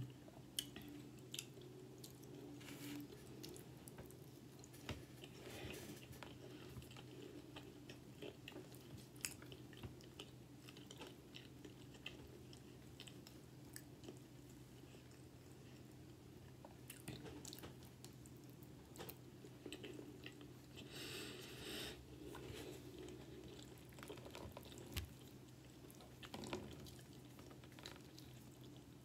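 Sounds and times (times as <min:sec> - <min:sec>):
low steady hum: 0:00.0 - 0:29.0
close chewing and mouth clicks: 0:00.1 - 0:20.9, 0:22.2 - 0:29.0.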